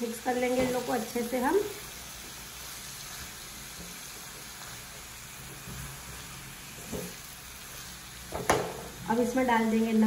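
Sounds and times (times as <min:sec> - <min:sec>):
greens sizzling in a pan: 0:00.0 - 0:10.0.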